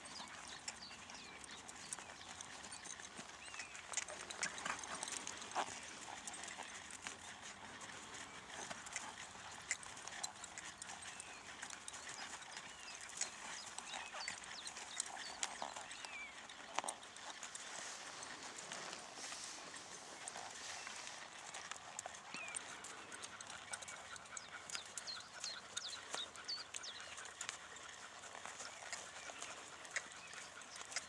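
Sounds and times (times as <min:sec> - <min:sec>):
horse hoofbeats on sand: 0:00.0 - 0:31.0.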